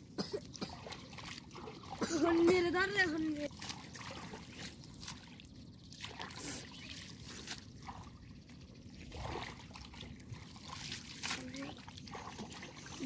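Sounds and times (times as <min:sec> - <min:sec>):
pond water splashing and trickling: 0:00.0 - 0:13.0.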